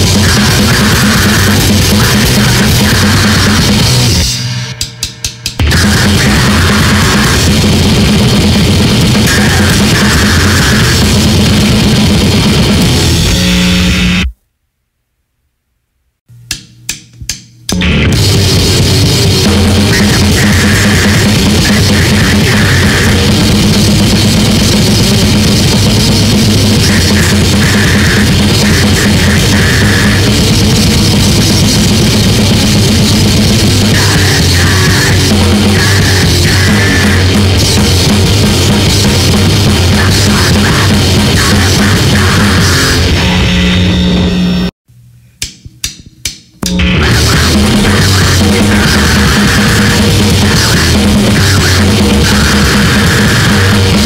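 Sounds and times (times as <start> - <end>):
grindcore band playing: 0.0 - 14.2, 17.7 - 44.4, 46.6 - 54.0.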